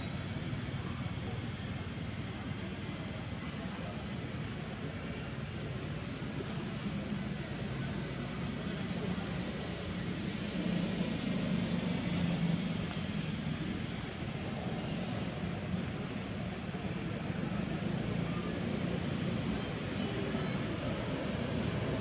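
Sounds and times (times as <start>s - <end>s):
low hum of traffic: 0.0s - 22.0s.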